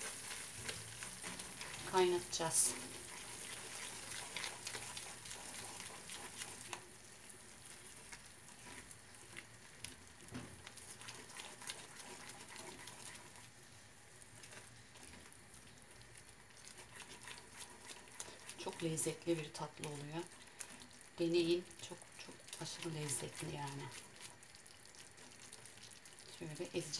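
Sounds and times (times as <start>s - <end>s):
food sizzling in a pan: 0.0s - 26.9s.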